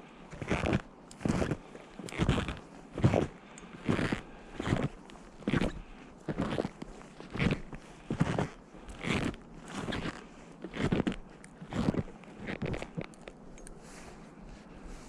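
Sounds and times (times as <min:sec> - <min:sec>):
snowshoe footsteps crunching snow: 0:00.3 - 0:15.0.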